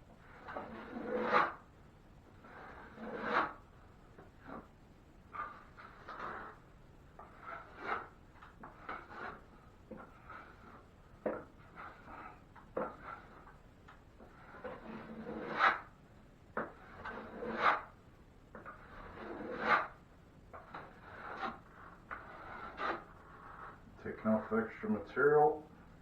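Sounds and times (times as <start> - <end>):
drywall knife scraping compound: 0.2 - 1.7, 2.4 - 4.7, 5.3 - 6.6, 7.2 - 13.6, 14.2 - 16.0, 16.6 - 20.0, 20.6 - 24.8.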